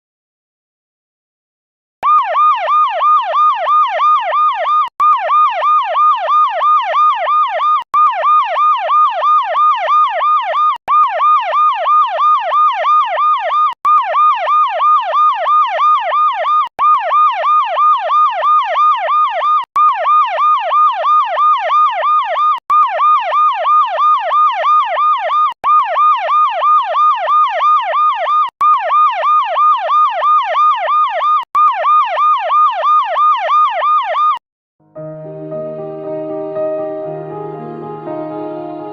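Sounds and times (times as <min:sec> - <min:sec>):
toy siren yelping: 0:02.0 - 0:34.4.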